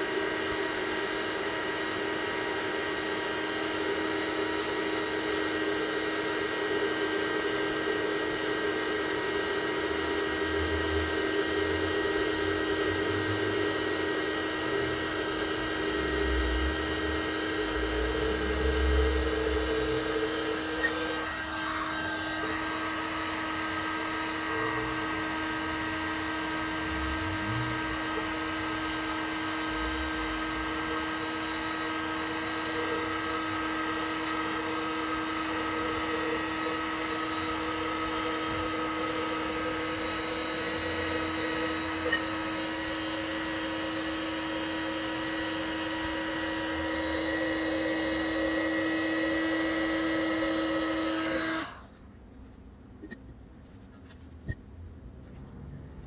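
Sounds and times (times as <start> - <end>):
heat gun motor whine: 0.0 - 52.1, 53.0 - 53.2.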